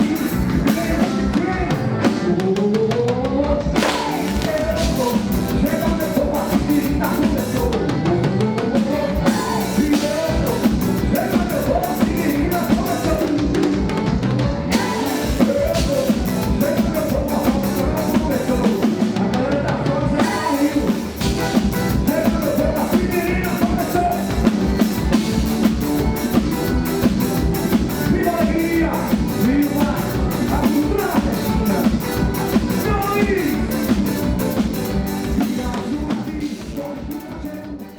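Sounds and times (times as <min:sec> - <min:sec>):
drum kit beat: 0:00.0 - 0:37.9
live band music: 0:00.0 - 0:37.9
person singing: 0:00.0 - 0:37.9.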